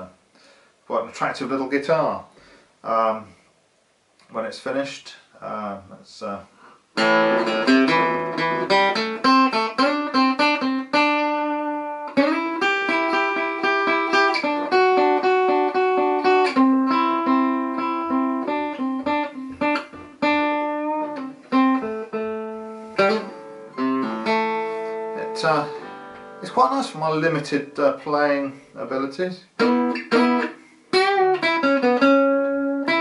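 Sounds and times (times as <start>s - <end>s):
solo archtop guitar: 5.4s - 33.0s.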